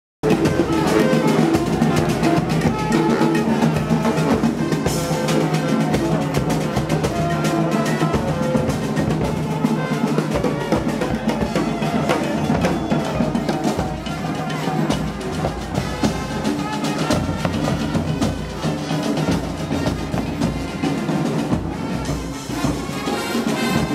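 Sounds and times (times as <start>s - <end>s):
brass band playing: 0.2s - 23.9s
drum beat: 0.2s - 23.9s.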